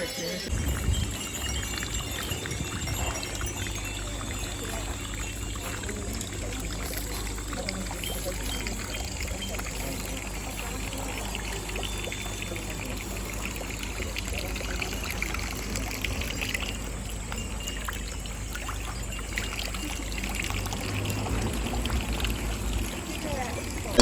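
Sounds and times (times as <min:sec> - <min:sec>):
wind chimes tinkling: 0:00.0 - 0:24.0.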